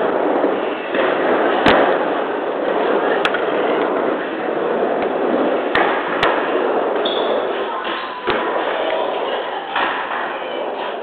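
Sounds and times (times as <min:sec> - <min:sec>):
skateboard wheels rumbling on wood: 0:00.0 - 0:11.0.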